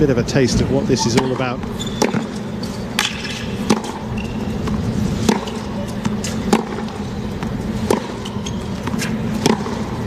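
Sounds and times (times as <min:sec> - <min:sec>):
tennis ball struck by rackets: 0:01.1 - 0:02.4, 0:03.0 - 0:10.0.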